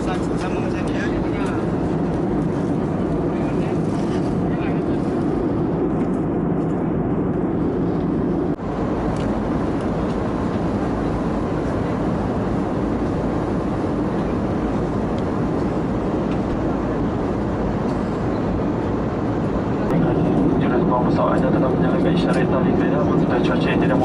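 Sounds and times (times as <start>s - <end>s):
airplane cabin noise: 0.0s - 24.0s.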